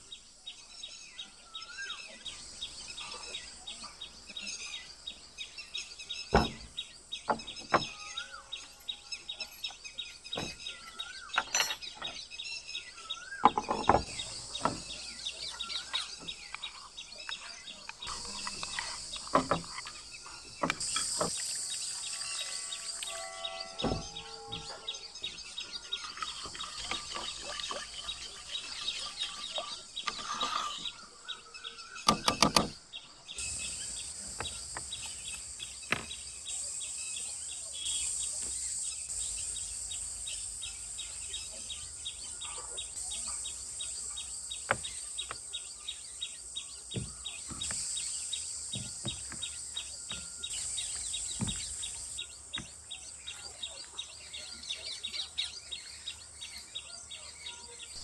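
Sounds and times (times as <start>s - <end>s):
birds chirping: 0.0s - 58.0s
insect chorus: 0.0s - 58.0s.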